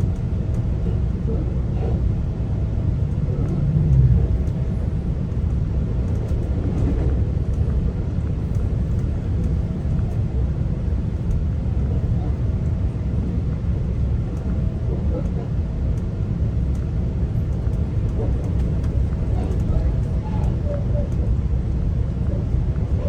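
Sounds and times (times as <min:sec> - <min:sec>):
train rumbling inside coach: 0:00.0 - 0:23.0.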